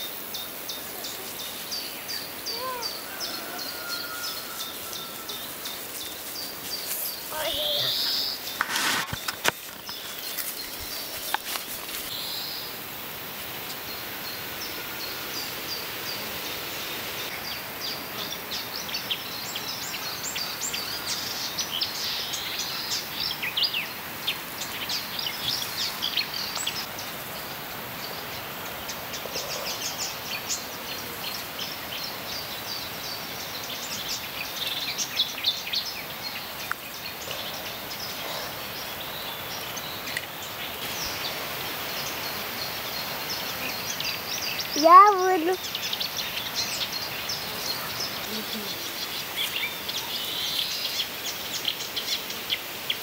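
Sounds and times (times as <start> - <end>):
birds chirping: 0.0 - 12.9, 13.5 - 53.0
outdoor background hiss: 0.0 - 53.0.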